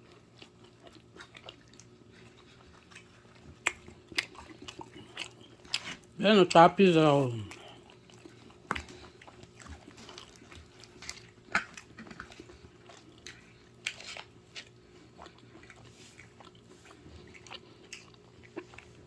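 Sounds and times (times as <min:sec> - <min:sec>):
person chewing pizza: 0:00.0 - 0:19.0.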